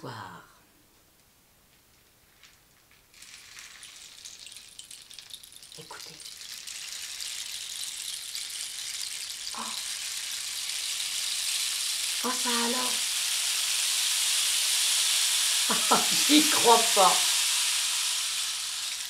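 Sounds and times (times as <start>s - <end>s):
rain stick rattling hiss: 1.7s - 19.0s.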